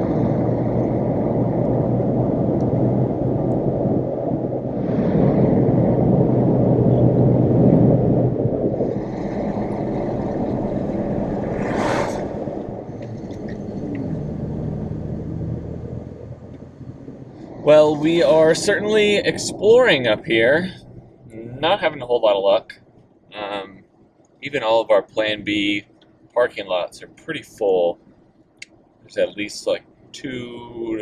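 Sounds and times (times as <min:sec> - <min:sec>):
road and engine rumble: 0:00.0 - 0:31.0.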